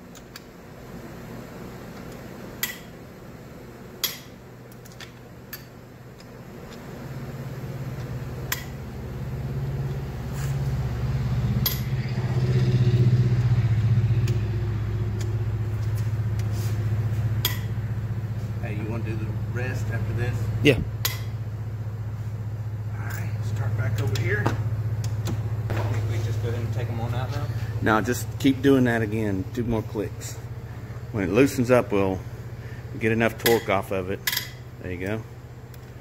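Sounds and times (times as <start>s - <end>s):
engine rumble: 6.4s - 36.0s.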